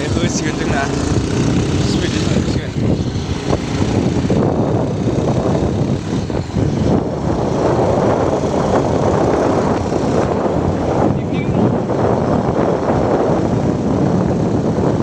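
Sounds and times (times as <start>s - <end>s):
motorbike engine and road noise: 0.0s - 15.0s
wind buffeting microphone: 0.0s - 15.0s.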